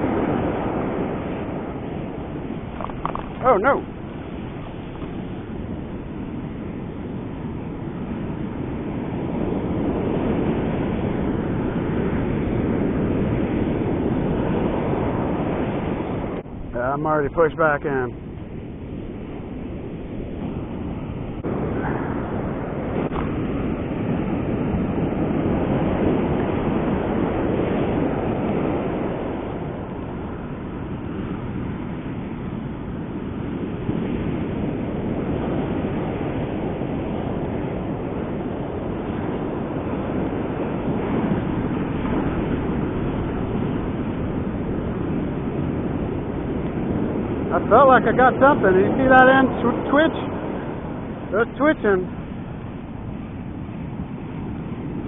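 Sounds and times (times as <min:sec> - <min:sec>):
ocean surf breaking: 0:00.0 - 0:55.0
wind on the microphone: 0:00.0 - 0:55.0.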